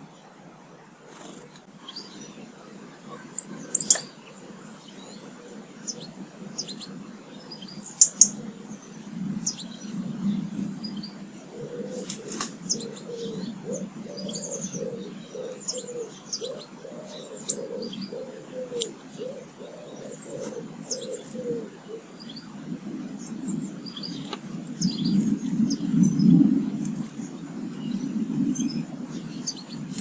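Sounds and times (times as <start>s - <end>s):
songbirds chirping: 0.0s - 30.0s
pigeon cooing: 3.1s - 7.0s, 8.0s - 30.0s.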